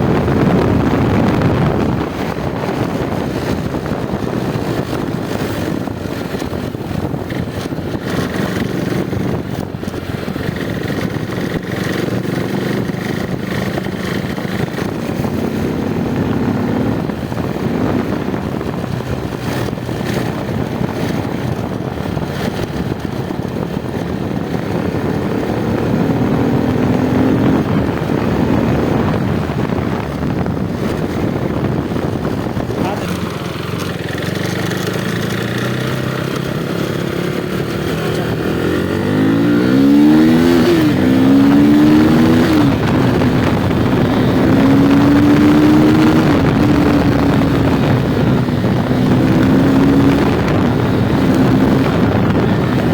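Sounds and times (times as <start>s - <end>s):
motorcycle engine running: 0.0s - 52.9s
wind rush: 0.0s - 52.9s.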